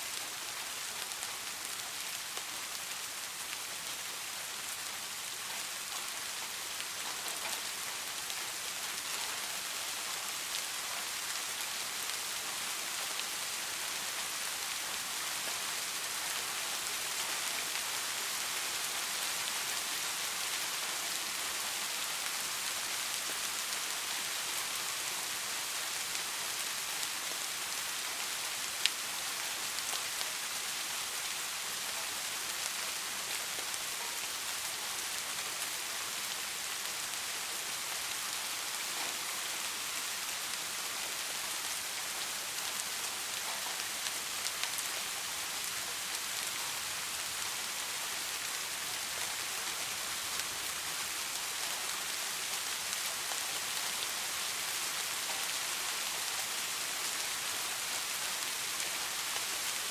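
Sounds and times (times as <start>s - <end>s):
steady rain hiss: 0.0s - 59.9s
faint raindrop ticks: 0.1s - 4.0s, 4.8s - 59.9s.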